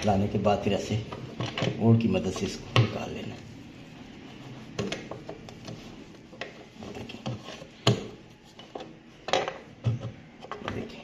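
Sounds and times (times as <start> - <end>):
plastic scraping and rubbing: 1.0 - 11.0.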